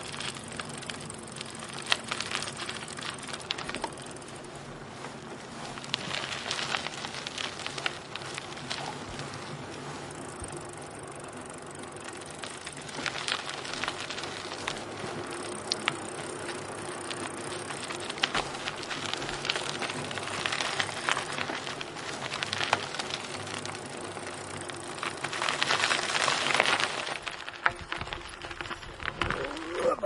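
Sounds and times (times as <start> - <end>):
bicycle tyres on unpaved road: 0.0 - 30.0
small clicks and rattles: 0.0 - 30.0.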